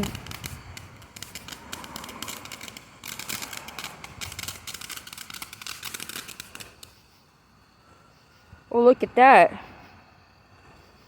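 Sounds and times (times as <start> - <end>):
firework fountain crackling: 0.0 - 9.5.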